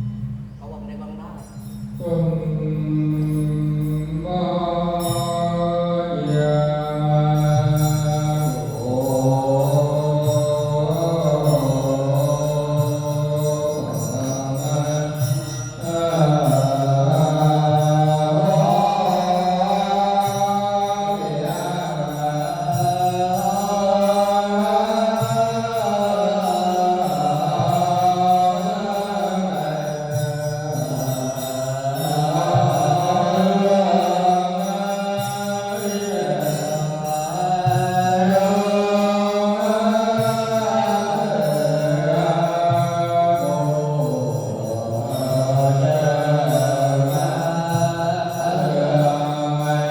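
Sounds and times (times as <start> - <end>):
low sustained accompaniment: 0.0 - 49.9
person chanting on long notes: 1.6 - 49.9.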